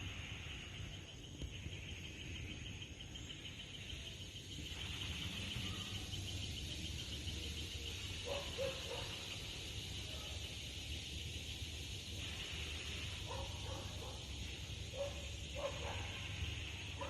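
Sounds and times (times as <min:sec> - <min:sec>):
insects trilling: 0:00.0 - 0:17.0
short high insect calls: 0:00.0 - 0:17.0.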